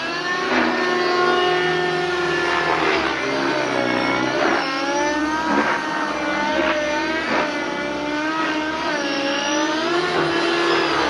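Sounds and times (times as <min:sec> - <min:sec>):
model helicopter engine at high revs: 0:00.0 - 0:11.0.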